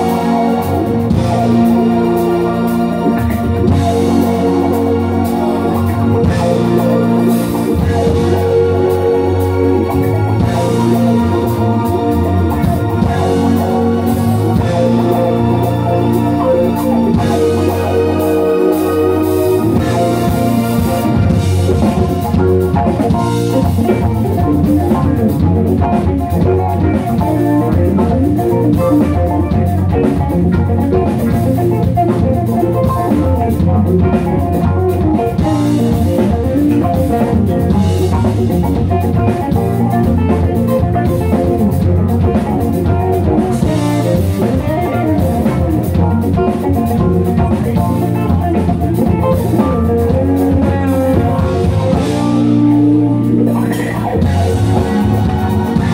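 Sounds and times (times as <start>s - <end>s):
drum kit: 0.0s - 55.9s
electric bass: 0.0s - 55.9s
electric guitar: 0.0s - 55.9s
keyboard: 0.0s - 55.9s.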